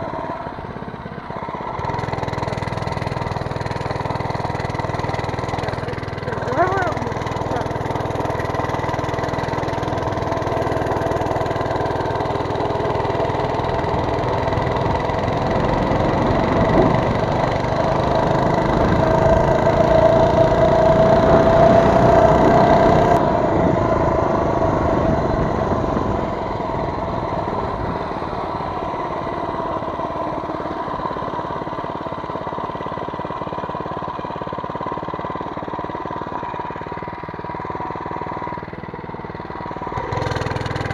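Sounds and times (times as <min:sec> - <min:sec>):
mini bike engine running: 0:00.0 - 0:40.9.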